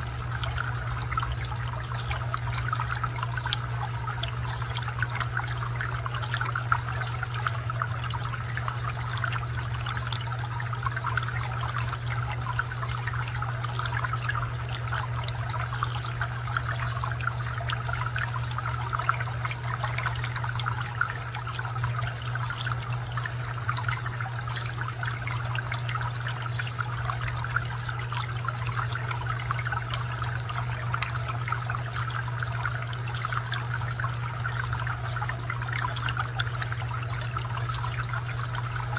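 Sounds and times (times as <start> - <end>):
constant low hum: 0.0 - 38.9
fountain water trickling and splashing: 0.0 - 38.9.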